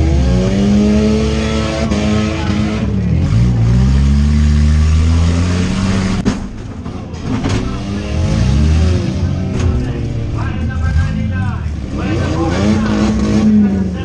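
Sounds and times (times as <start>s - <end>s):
car engine revving: 0.0s - 6.4s, 7.2s - 14.0s.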